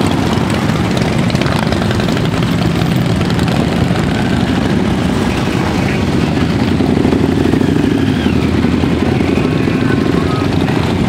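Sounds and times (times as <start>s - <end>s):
motorcycles rumbling past: 0.0s - 11.0s.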